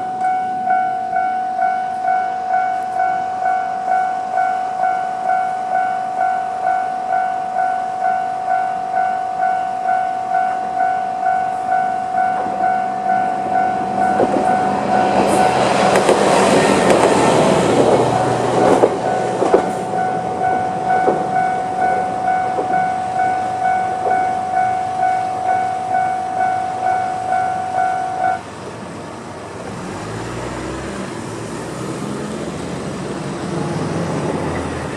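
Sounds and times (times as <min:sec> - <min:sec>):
level crossing warning bell: 0:00.0 - 0:28.5
train wheels clacking on rails: 0:00.3 - 0:28.4.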